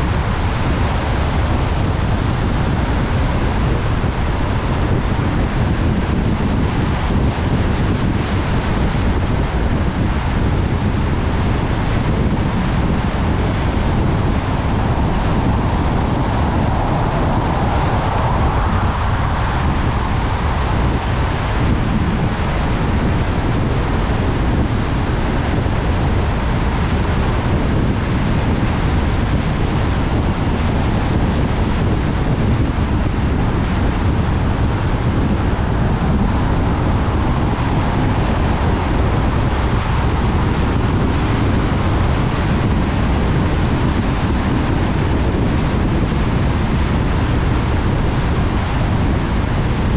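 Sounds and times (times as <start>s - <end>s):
car driving on wet road: 0.0s - 6.0s, 6.6s - 49.9s
deep rumble: 0.0s - 49.9s.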